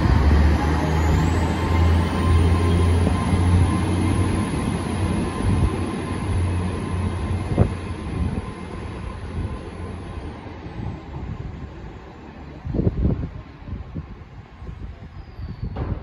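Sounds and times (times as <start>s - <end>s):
train rumbling away: 0.0s - 16.0s.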